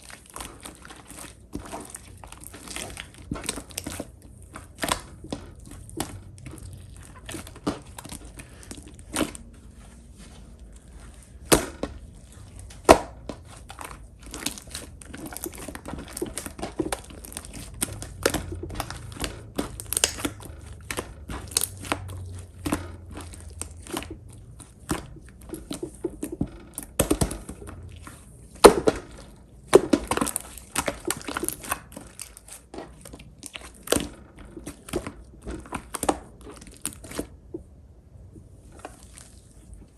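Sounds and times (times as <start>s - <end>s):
slime squishing with sticky pops: 0.0s - 39.9s.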